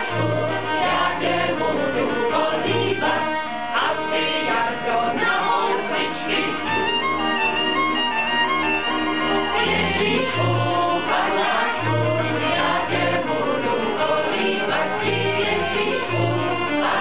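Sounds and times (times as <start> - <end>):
men and women singing: 0.0 - 7.1, 9.5 - 17.0
folk band fiddles playing: 0.0 - 17.0.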